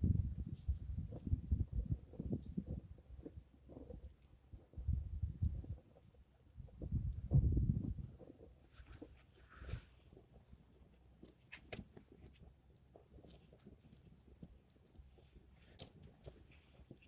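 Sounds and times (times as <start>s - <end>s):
quiet low rumble: 0.0s - 17.0s
wood fire crackling: 0.1s - 17.0s.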